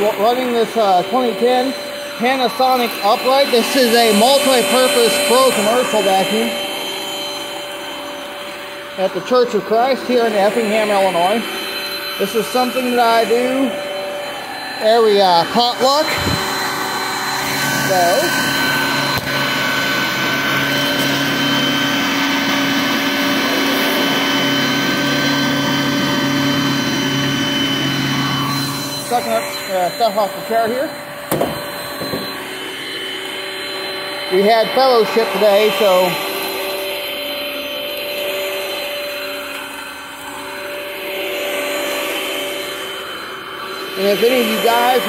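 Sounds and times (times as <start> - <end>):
upright vacuum cleaner running: 0.0 - 45.0.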